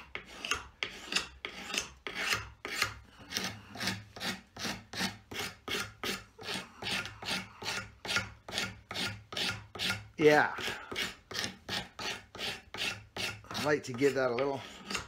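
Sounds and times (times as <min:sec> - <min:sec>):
scraping wooden handle: 0:00.0 - 0:15.0.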